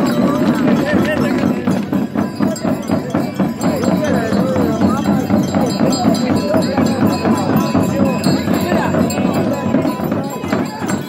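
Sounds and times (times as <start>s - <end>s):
bells jingling: 0.0s - 11.0s
frame drums beaten fast: 0.0s - 11.0s.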